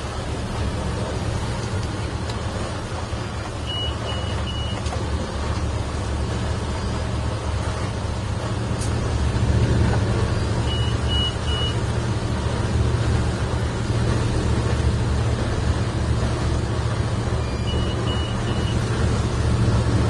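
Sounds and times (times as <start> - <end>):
boat engines running: 0.0 - 20.0
wind and water rushing: 0.0 - 20.0.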